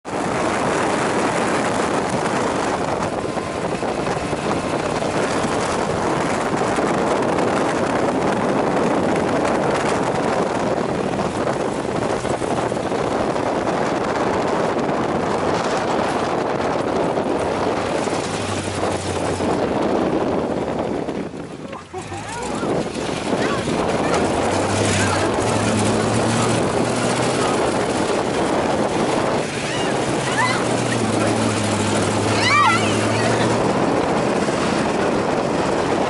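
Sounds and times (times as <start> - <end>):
sand buggy engine running: 0.0 - 36.0.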